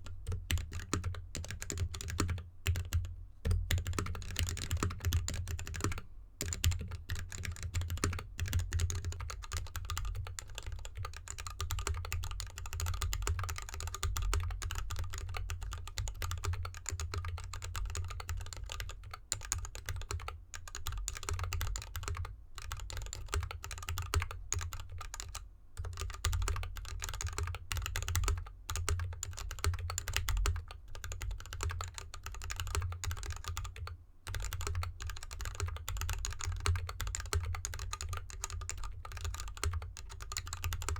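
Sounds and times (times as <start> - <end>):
mechanical keyboard typing: 0.3 - 40.9.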